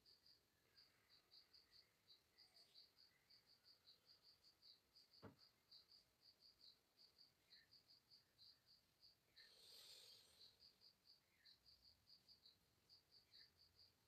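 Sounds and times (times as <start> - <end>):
faint insect chirping: 0.0 - 14.0.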